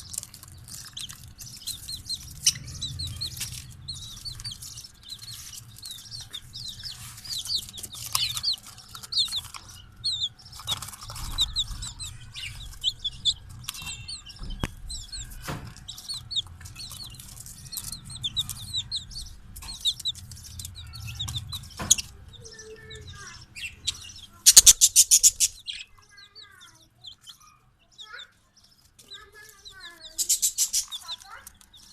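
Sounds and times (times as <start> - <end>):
chicks peeping: 0.0 - 31.9
rapid rattling calls: 0.0 - 31.9.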